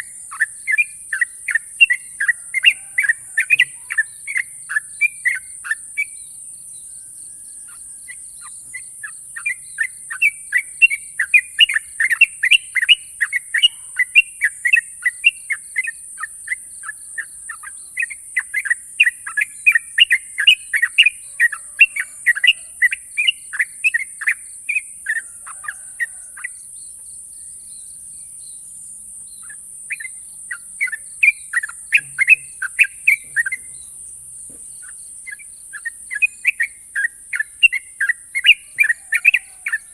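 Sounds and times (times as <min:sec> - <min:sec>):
bird chirping song: 0:00.0 - 0:39.9
steady high-pitched hiss: 0:00.0 - 0:39.9.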